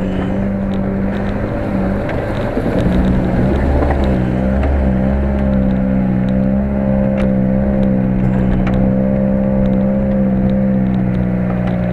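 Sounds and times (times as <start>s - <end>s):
car engine droning: 0.0s - 11.9s.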